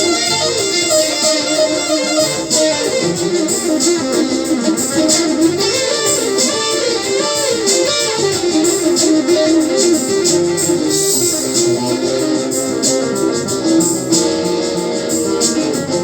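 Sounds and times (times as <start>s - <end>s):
plucked string melody: 0.0s - 16.0s
strummed chords: 0.0s - 16.0s.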